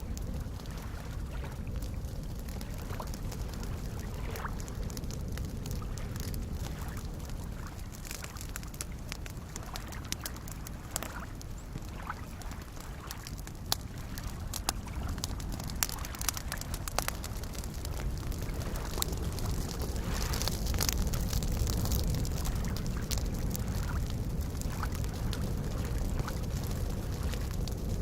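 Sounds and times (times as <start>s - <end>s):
small waves lapping: 0.0s - 27.7s
wood fire crackling: 0.0s - 28.0s.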